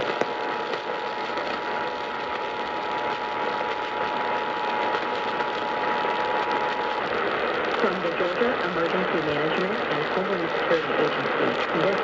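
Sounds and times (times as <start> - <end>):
radio hiss and static: 0.0 - 12.0.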